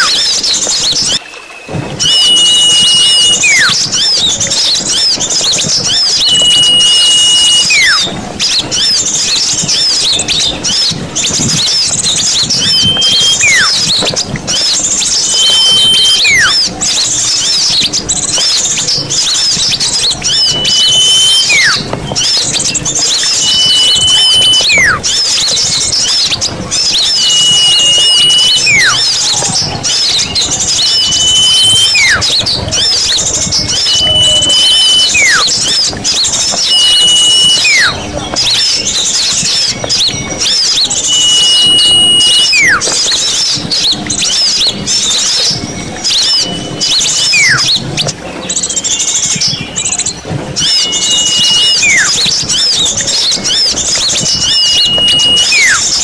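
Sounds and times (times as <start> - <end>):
small birds twittering: 0.0 - 56.0
whistled bird call sliding down: 0.0 - 56.0.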